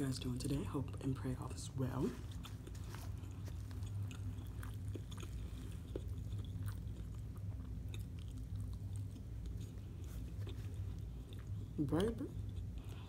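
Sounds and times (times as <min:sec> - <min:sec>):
steady low hum: 0:00.0 - 0:13.0
wet mouth chewing sounds: 0:02.1 - 0:13.0.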